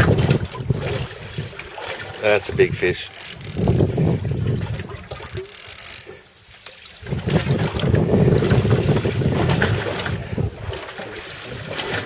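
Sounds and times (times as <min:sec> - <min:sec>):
wind buffeting microphone: 0:00.0 - 0:05.5, 0:07.0 - 0:12.0
water noise: 0:00.0 - 0:12.0.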